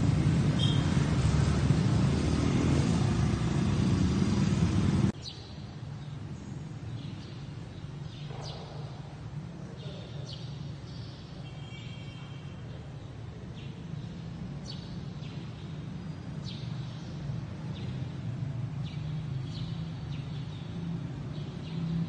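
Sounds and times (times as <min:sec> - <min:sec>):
birds chirping: 0:00.2 - 0:01.4, 0:05.1 - 0:22.0.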